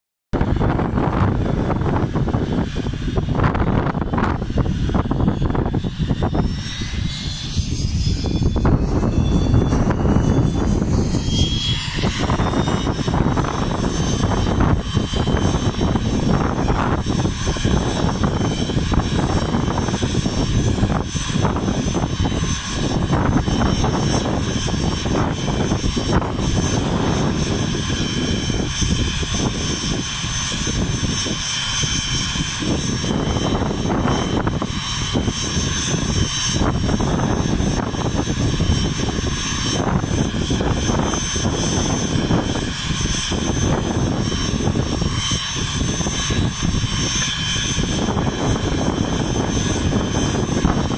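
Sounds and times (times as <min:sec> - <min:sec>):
airplane engine rumble: 0:00.4 - 0:50.9.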